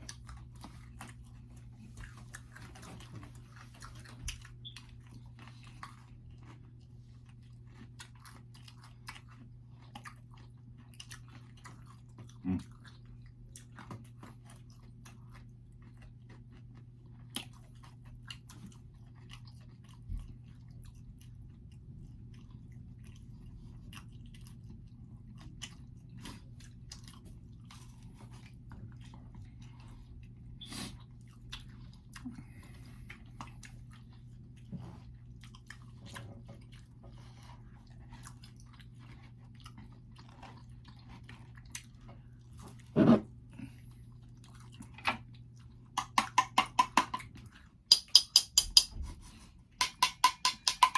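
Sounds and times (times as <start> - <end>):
chewing and biting pizza: 0.0 - 46.0, 47.2 - 47.9.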